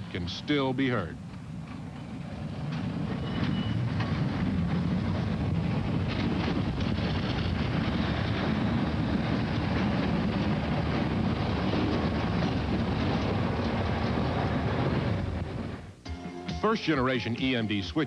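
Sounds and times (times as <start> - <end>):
train wheels on rails: 0.0 - 16.0
diesel locomotive engine: 0.0 - 18.0.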